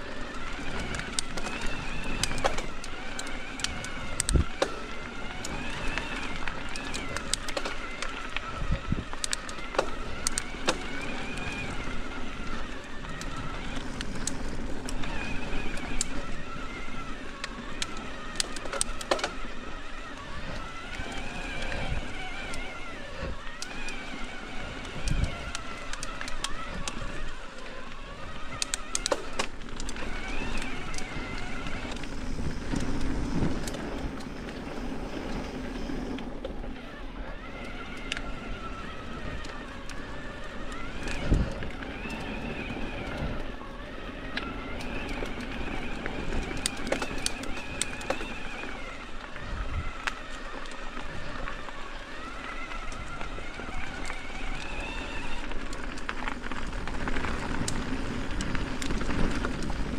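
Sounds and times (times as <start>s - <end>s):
bike tyres rumbling on dirt: 0.0s - 59.9s.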